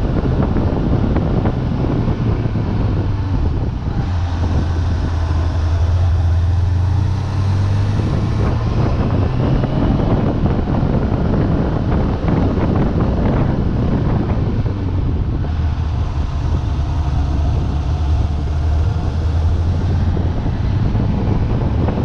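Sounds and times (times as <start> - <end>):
motorcycle engine under throttle: 0.0 - 22.0
wind noise on microphone: 0.0 - 22.0.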